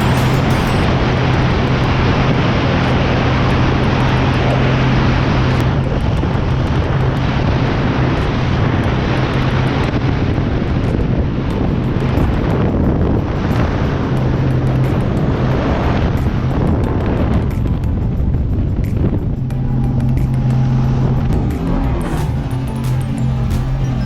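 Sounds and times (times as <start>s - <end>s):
rush of wind and water: 0.8s - 23.3s.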